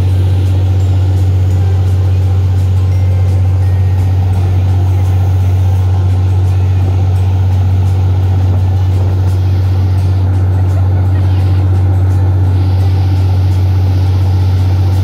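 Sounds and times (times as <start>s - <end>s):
boat engine droning: 0.0s - 15.0s
water rushing from wake: 0.0s - 15.0s.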